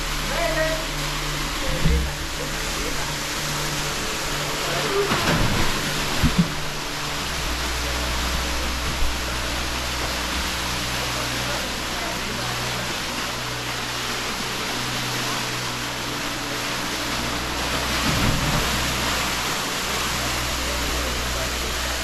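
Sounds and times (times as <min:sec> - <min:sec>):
waterfall pouring into pool: 0:00.0 - 0:22.0.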